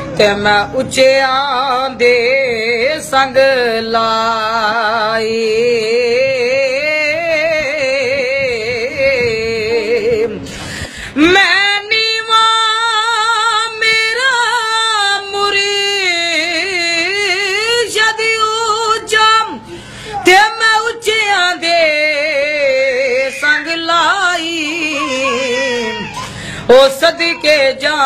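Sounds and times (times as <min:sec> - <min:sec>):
boy singing with vibrato: 0:00.0 - 0:28.0.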